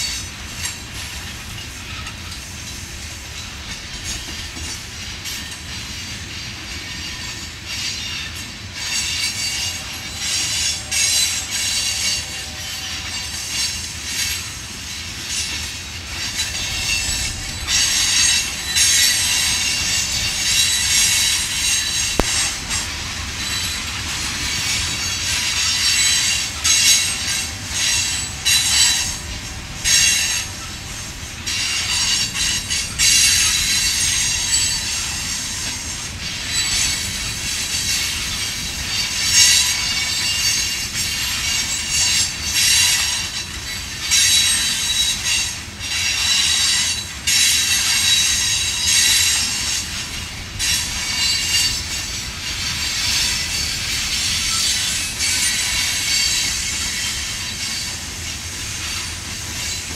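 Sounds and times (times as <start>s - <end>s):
low rumble of freight cars: 0.0s - 59.9s
steel wheels squealing on rail: 0.0s - 59.9s.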